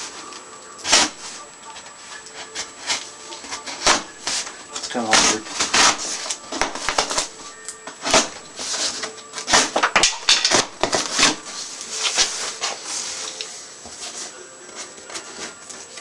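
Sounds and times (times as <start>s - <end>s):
cardboard packaging rustling: 0.0s - 16.0s.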